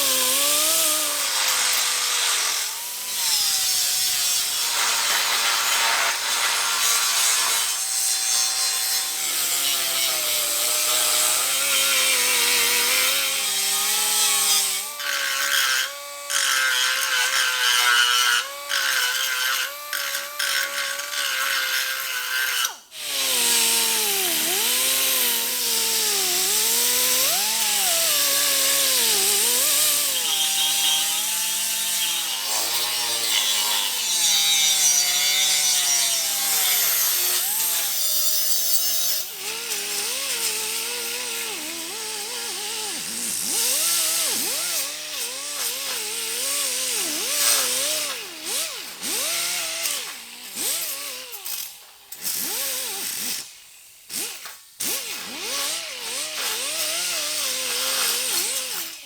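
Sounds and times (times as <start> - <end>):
power grinder on sheet metal: 0.0 - 59.0.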